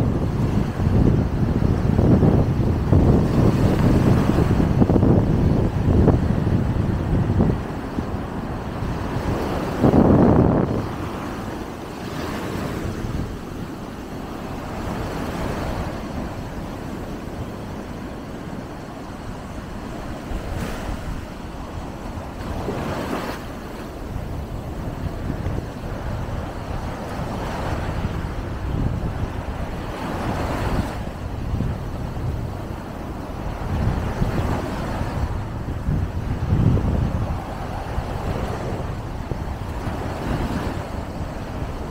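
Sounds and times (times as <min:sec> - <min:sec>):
surf washing up a beach: 0:00.0 - 0:41.9
wind rumbling on microphone: 0:00.0 - 0:41.9.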